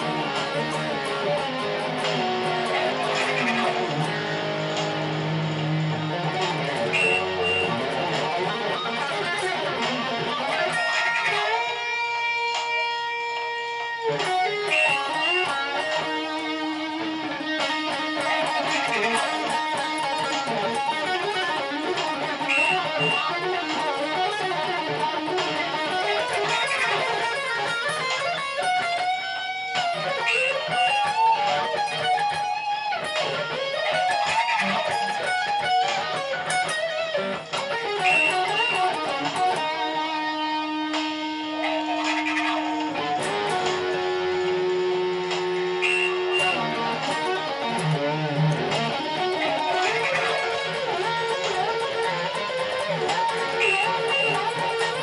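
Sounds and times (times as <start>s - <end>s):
electric guitar solo: 0.0s - 55.0s.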